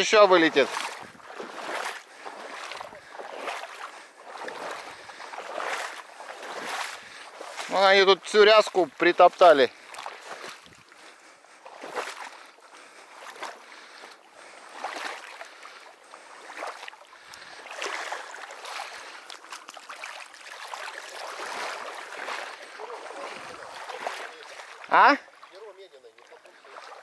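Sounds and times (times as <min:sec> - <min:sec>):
water sloshing around wading boots: 0:00.0 - 0:27.0.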